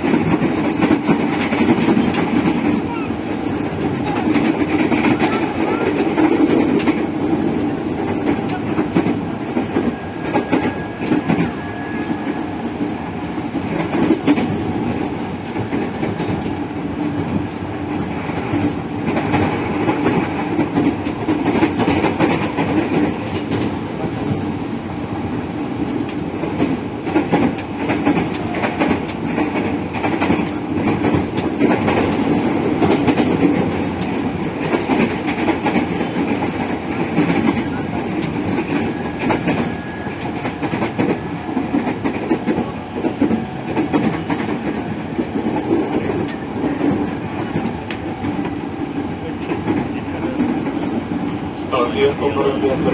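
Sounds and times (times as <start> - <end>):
wheels clicking over rail joints: 0.0 - 24.9, 25.9 - 52.9
train wheels rumbling on rails: 0.0 - 52.9.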